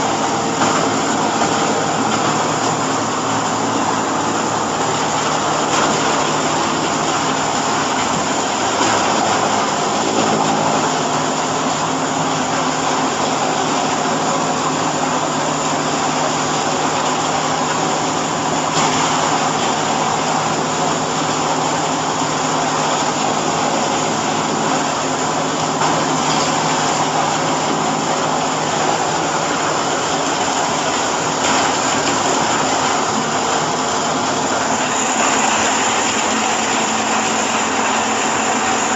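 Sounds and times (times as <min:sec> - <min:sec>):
baler machine drone: 0:00.0 - 0:38.9.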